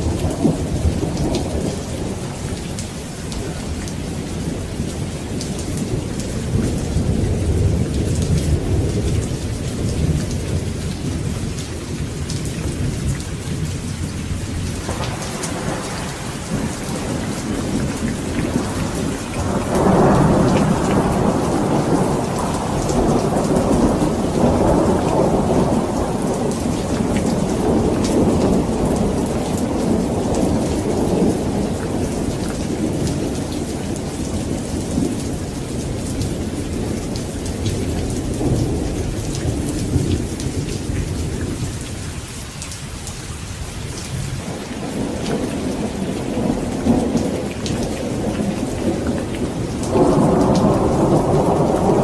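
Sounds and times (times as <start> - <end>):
thunder rumble: 0.0 - 42.2, 44.0 - 52.0
heavy rain falling: 0.0 - 52.0.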